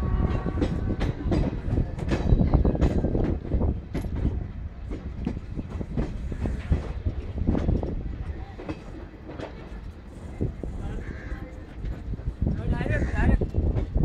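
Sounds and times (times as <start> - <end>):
train rumbling at speed: 0.0 - 14.0
train wheels clattering on rails: 0.0 - 14.0.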